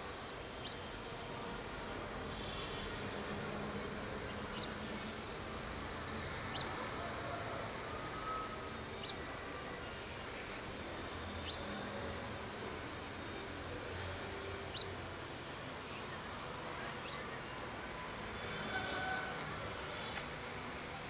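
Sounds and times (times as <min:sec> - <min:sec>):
outdoor background hum: 0:00.0 - 0:21.0.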